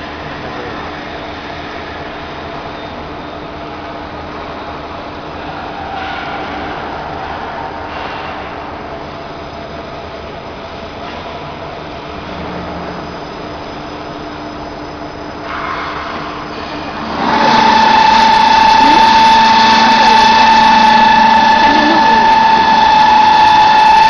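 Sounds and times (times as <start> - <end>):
feed press machine droning: 0.0 - 24.0.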